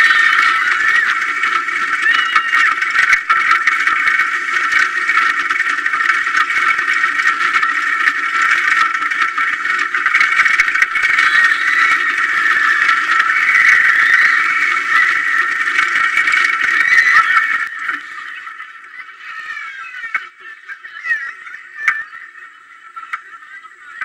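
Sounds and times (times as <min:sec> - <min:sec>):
roller coaster train rattling: 0:00.0 - 0:24.0.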